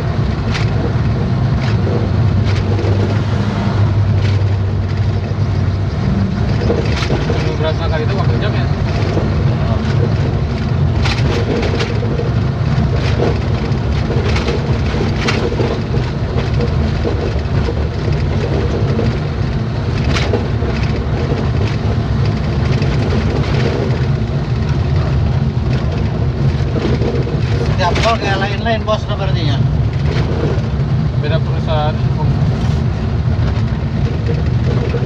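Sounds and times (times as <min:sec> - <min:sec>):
vehicle driving on road: 0:00.0 - 0:35.0.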